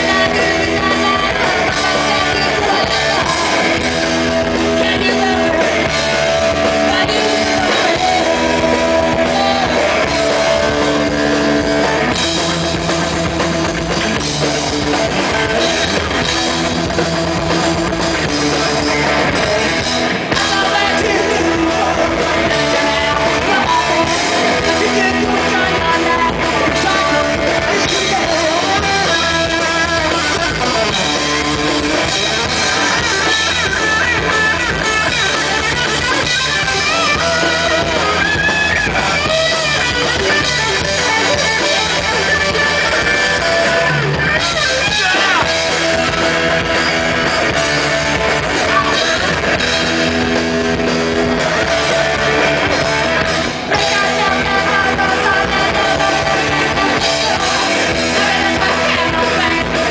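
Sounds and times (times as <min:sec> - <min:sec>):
lead vocal singing: 0:00.0 - 0:14.2, 0:15.0 - 0:59.9
bass guitar: 0:00.0 - 0:59.9
drum kit: 0:00.0 - 0:59.9
electric guitars: 0:00.0 - 0:59.9.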